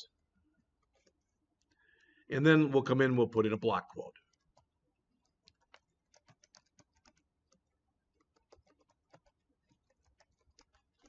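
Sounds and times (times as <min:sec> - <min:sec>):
faint keyboard typing: 0:00.1 - 0:02.3, 0:04.0 - 0:11.0.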